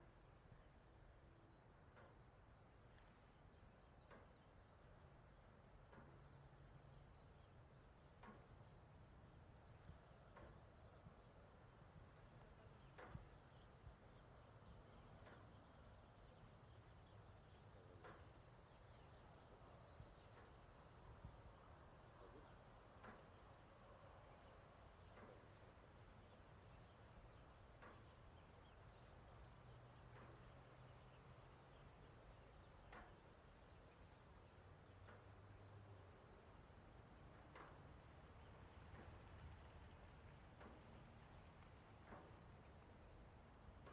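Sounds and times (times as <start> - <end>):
insects chirping chorus: 3.4 - 43.9.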